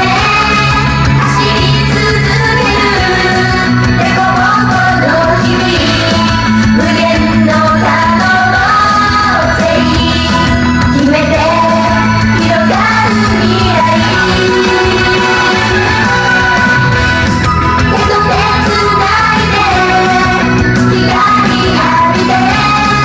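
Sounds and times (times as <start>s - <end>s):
pop backing track: 0.0s - 23.0s
women singing in unison: 0.0s - 23.0s.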